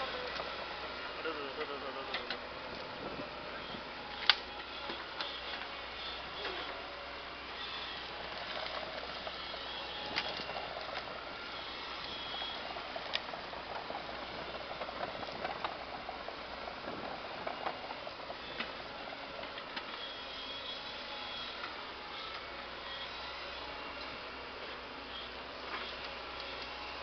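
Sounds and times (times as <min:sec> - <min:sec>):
excavator humming: 0:00.0 - 0:27.0.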